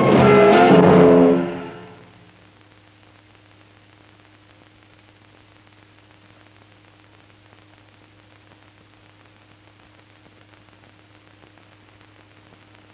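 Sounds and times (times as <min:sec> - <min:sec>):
film soundtrack surface noise: 0:00.0 - 0:12.9.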